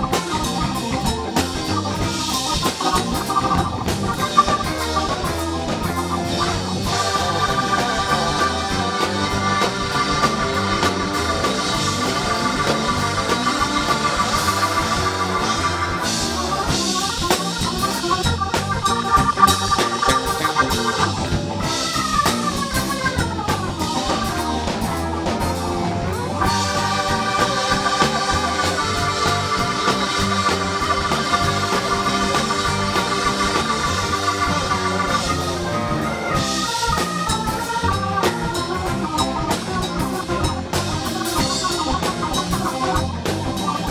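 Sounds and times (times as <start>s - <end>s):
drum kit: 0.0s - 43.9s
rock band organ: 0.0s - 43.9s.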